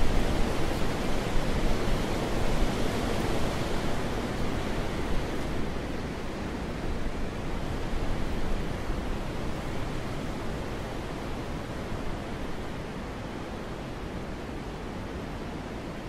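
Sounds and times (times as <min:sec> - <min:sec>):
wind blowing: 0:00.0 - 0:14.1.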